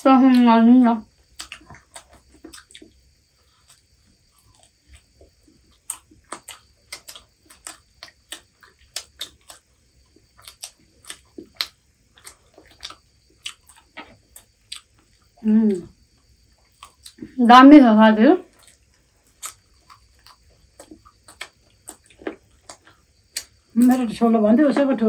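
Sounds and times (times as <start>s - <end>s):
chewing crispy fried chicken: 0.2s - 17.4s, 18.4s - 24.1s.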